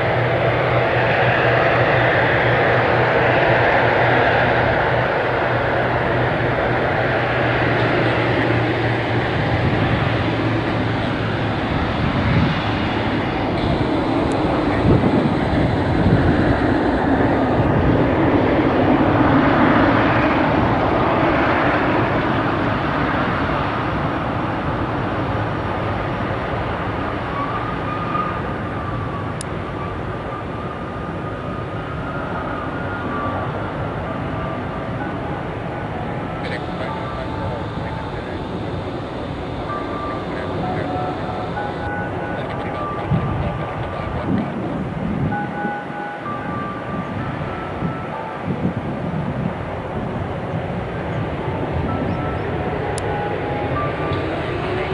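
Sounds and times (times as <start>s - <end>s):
jet engines rumbling: 0.0s - 54.9s
thin engine whine: 0.0s - 54.9s.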